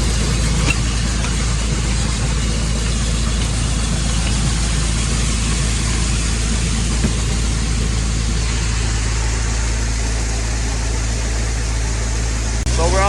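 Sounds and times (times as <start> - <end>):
grain auger machinery: 0.0 - 13.0
tractor engine running: 0.0 - 13.0.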